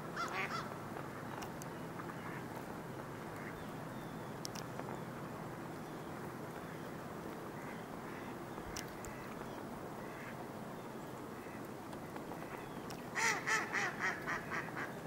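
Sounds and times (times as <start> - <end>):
steady background hiss: 0.0 - 15.0
ducks quacking faintly: 0.2 - 5.1, 5.9 - 15.0.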